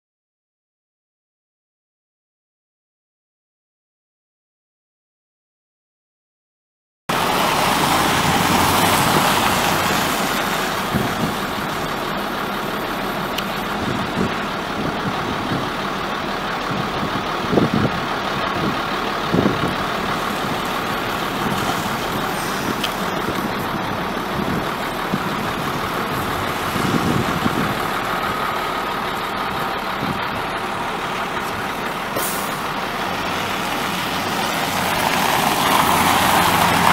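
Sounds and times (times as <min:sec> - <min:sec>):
pickup truck engine idling: 0:07.1 - 0:36.9.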